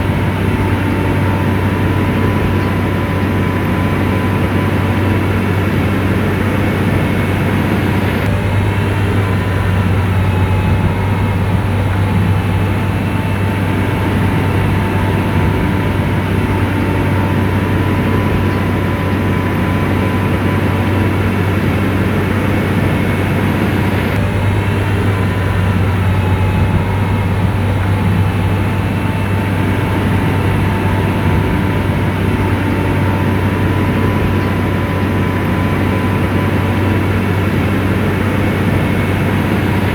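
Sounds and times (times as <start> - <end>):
bulldozer diesel engine: 0.0 - 39.9
thin steady whine: 0.0 - 39.9.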